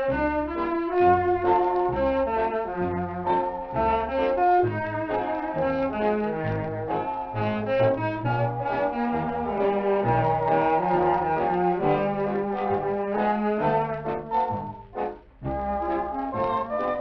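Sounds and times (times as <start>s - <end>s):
brass music with held notes: 0.0s - 17.0s.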